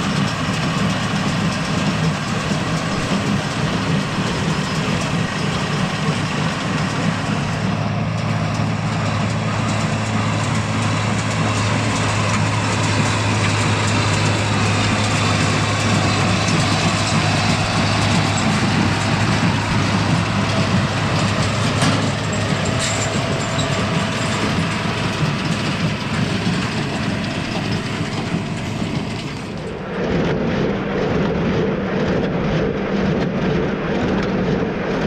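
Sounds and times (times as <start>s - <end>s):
tractor diesel engine droning: 0.0s - 35.0s.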